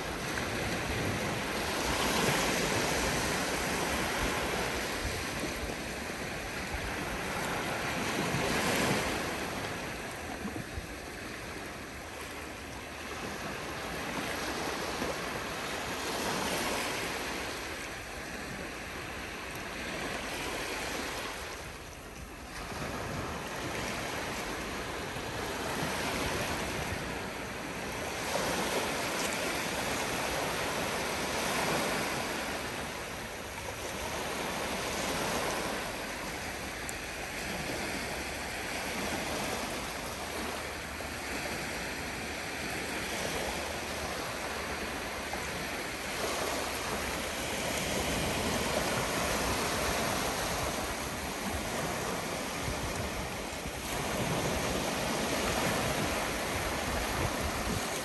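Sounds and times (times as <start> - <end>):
small waves breaking on shore: 0.0 - 58.0.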